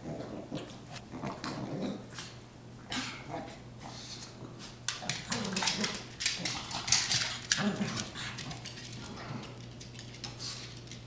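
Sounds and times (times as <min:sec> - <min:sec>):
dogs making throaty noises: 0:00.0 - 0:10.9.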